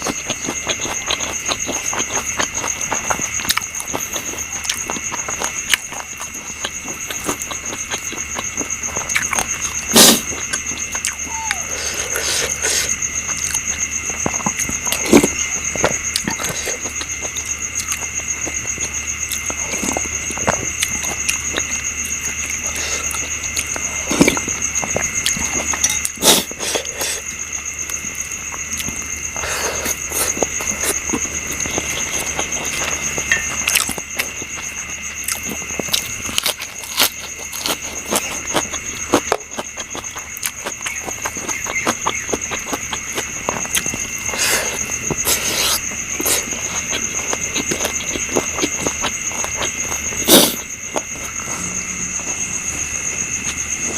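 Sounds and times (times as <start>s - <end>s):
chewing: 0.0s - 53.9s
insects chirring: 0.0s - 53.9s.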